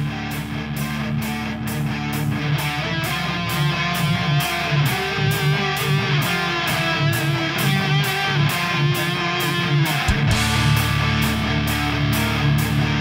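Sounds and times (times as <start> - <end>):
guitar music with beat: 0.0 - 13.0.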